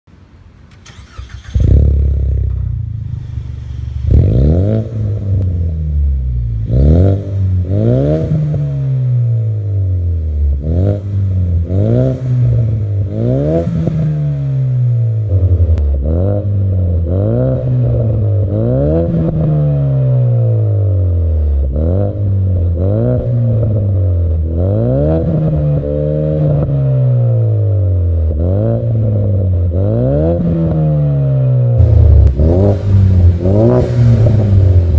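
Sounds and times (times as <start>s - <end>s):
car engine starting and revving: 0.7s - 34.9s.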